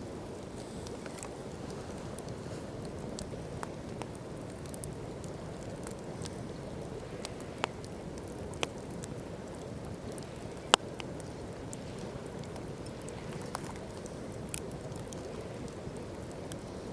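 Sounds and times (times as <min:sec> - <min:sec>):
low rushing of fire: 0:00.0 - 0:16.9
campfire pops and snaps: 0:00.2 - 0:16.9.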